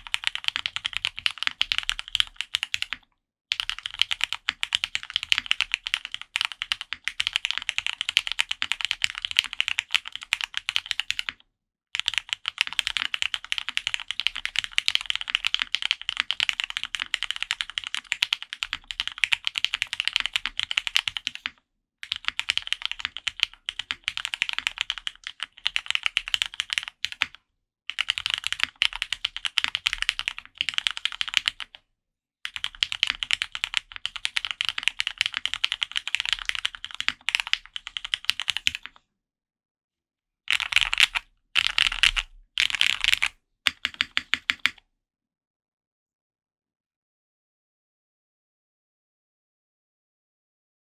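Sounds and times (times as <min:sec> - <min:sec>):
fast typing on mechanical keyboard: 0:00.0 - 0:11.4, 0:12.0 - 0:31.8, 0:32.5 - 0:39.0, 0:40.5 - 0:44.8.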